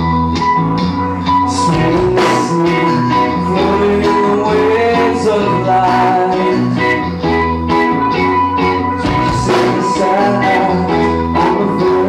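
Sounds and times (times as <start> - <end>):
bass guitar: 0.0 - 12.0
drums: 0.0 - 12.0
electric guitars: 0.0 - 12.0
lead singer: 0.9 - 12.0.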